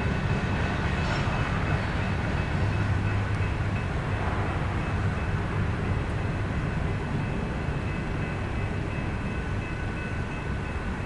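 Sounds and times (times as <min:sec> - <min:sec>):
freight train rumbling by: 0:00.0 - 0:11.0.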